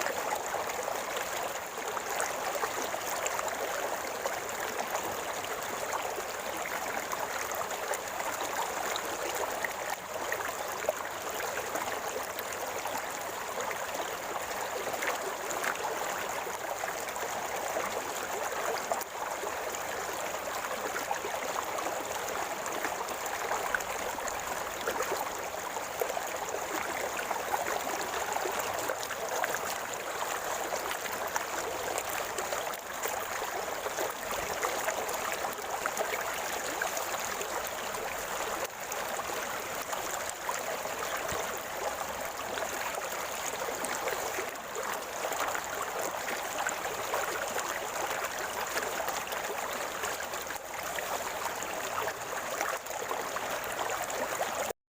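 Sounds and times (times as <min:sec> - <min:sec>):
river water flowing and gurgling: 0:00.0 - 0:54.7.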